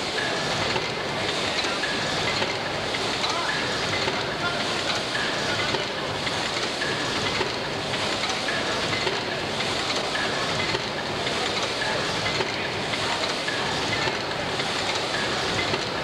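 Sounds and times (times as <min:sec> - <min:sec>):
steam pumping engine running: 0:00.0 - 0:16.0.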